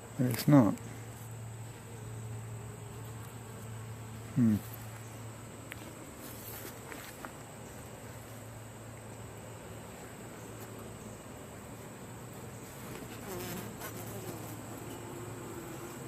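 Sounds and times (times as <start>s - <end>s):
honey bees humming: 0.0s - 16.0s.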